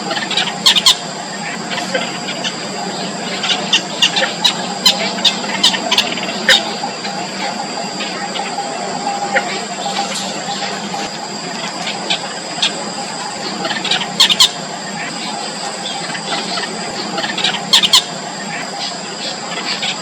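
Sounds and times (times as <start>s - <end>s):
background hum: 0.0s - 20.0s
nestlings begging squeaks: 0.1s - 20.0s.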